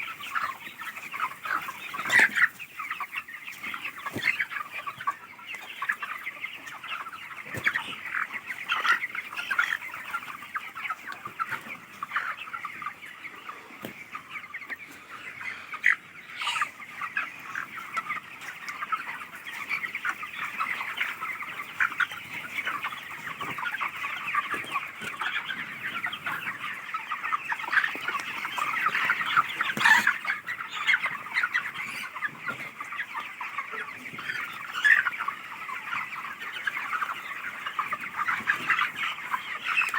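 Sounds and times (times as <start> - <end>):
chickens clucking and chirping: 0.0 - 39.9.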